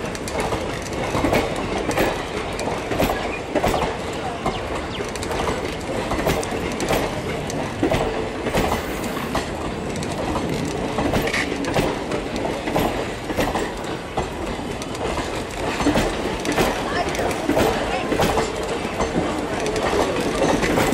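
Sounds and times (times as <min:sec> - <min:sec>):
train wheels clattering over rail joints: 0:00.0 - 0:20.9.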